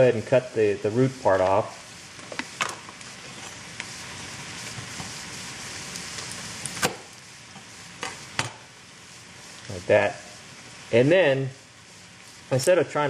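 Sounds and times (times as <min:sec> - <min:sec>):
vegetables sizzling in grease: 0:00.0 - 0:13.0.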